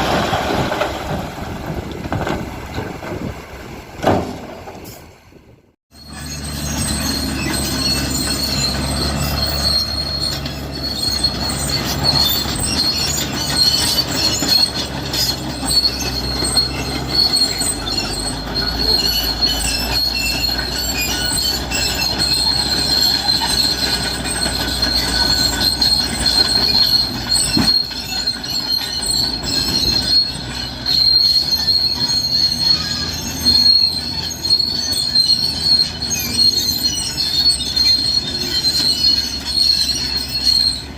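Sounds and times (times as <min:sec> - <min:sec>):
diesel engine drone: 0:00.0 - 0:40.9
steel tracks squealing and clattering: 0:00.0 - 0:40.9.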